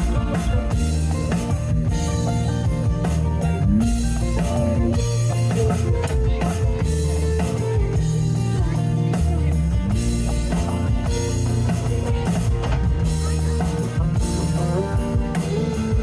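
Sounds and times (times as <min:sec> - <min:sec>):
blues-rock band playing: 0:00.0 - 0:16.0
electric guitar bending notes: 0:00.0 - 0:16.0.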